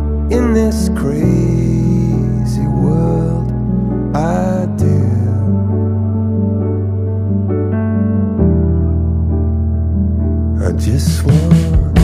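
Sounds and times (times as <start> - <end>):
low bass: 0.0 - 12.0
soft keyboard chords: 0.0 - 12.0.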